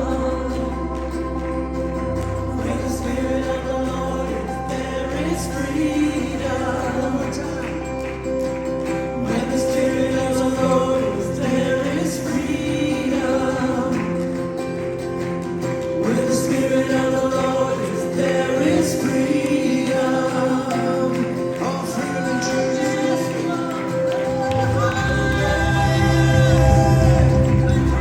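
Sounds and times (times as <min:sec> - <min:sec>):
group of voices singing: 0:00.0 - 0:28.0
sustained instrumental accompaniment: 0:00.0 - 0:28.0.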